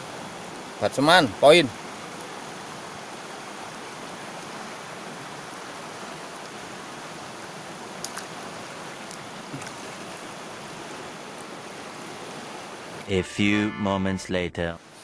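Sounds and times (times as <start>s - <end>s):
river water over rocks: 0.0s - 13.0s.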